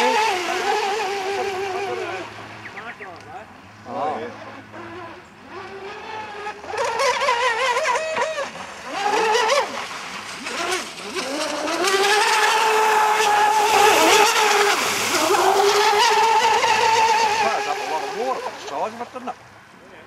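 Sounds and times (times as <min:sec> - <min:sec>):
electric boat motor whining: 0:00.0 - 0:19.3.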